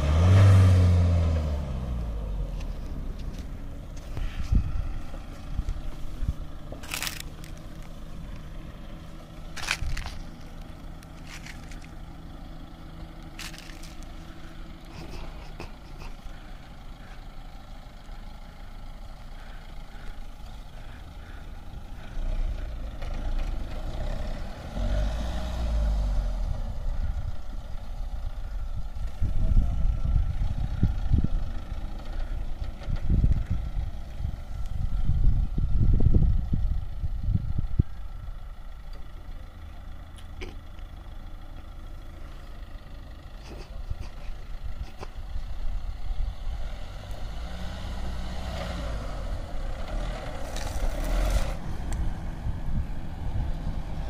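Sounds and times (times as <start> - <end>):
vehicle engine idling and revving: 0.0 - 54.0.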